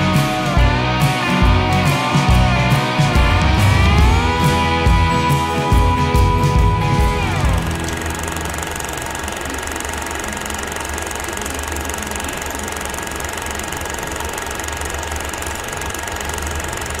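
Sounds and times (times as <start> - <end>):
low motor hum: 0.0 - 17.0
projector mechanical clatter: 0.0 - 17.0.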